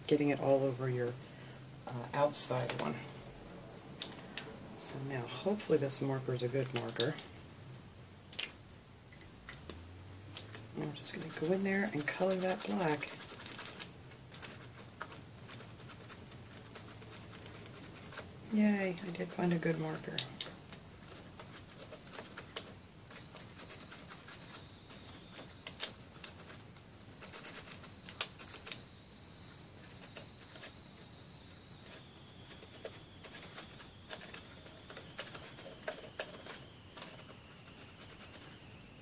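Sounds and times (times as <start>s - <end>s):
faint high whine: 0.0s - 39.0s.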